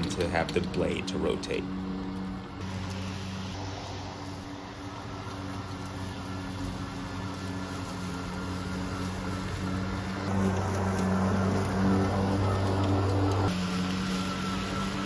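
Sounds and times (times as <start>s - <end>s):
electric lawn mower humming: 0.0s - 15.0s.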